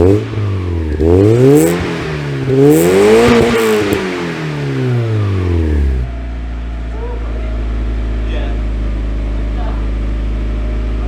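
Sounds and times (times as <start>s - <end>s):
car engine revving: 0.0s - 11.0s
exhaust crackles: 0.0s - 11.0s.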